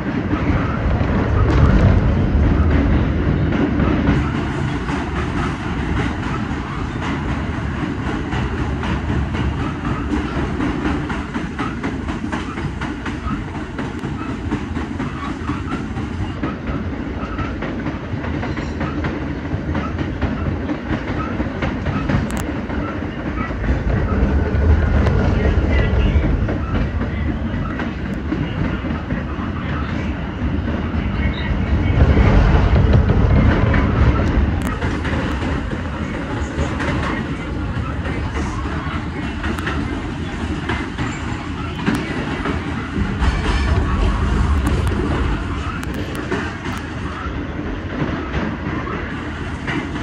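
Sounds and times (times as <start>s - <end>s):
subway wheel and rail rumble: 0.0s - 50.0s.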